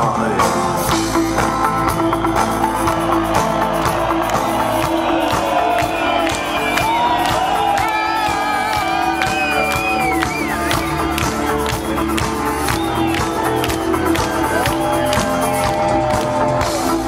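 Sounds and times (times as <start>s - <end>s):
rock band playing: 0.0s - 17.0s
crowd cheering and whooping: 1.3s - 17.0s.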